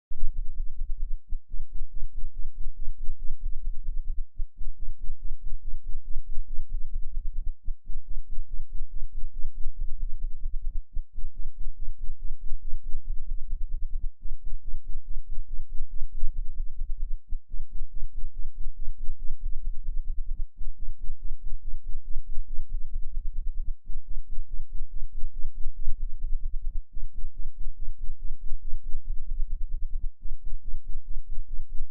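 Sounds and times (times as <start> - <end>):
deep throbbing bass tone: 0.1 - 31.9.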